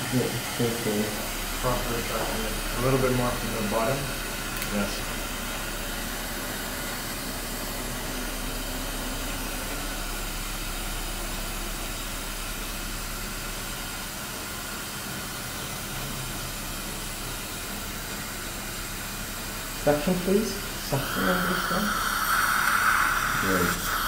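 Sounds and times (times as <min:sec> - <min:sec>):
steady hiss: 0:00.0 - 0:14.8, 0:17.6 - 0:24.0.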